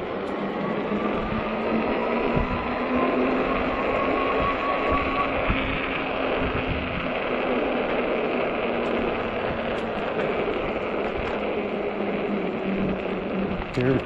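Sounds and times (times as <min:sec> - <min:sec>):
wind rush over microphone: 0:00.0 - 0:14.0.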